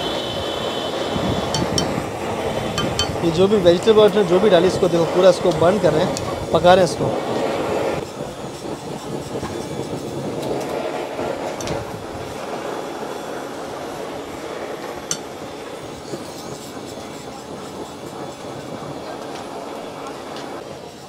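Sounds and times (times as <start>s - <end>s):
blowtorch hissing: 0.0s - 21.0s.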